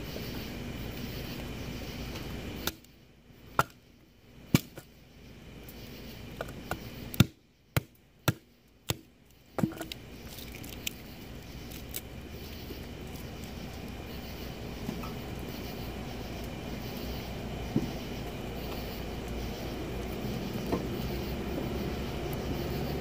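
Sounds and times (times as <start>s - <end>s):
steady background rumble: 0.0s - 23.0s
wood fire popping and snapping: 0.9s - 5.0s, 5.6s - 20.9s.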